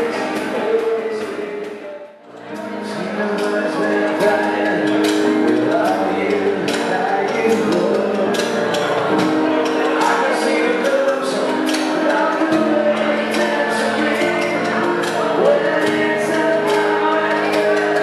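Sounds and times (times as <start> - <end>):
band playing held chords: 0.0 - 18.0.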